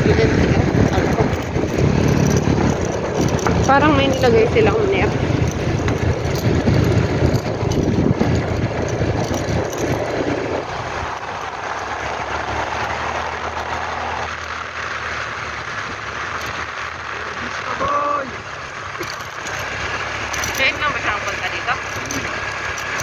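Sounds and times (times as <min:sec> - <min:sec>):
pickup engine drone: 0:00.0 - 0:23.0
tyre and road noise: 0:00.0 - 0:23.0.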